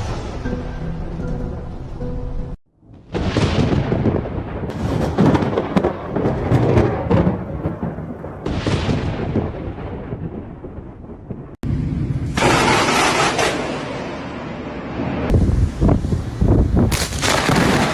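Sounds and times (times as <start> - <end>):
thunder rumble with sharp crackles: 2.8 - 17.9.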